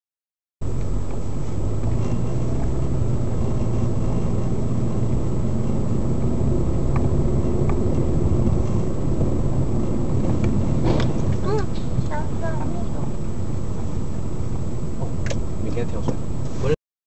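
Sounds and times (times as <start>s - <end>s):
car engine and tyres rumbling: 0.6s - 16.8s.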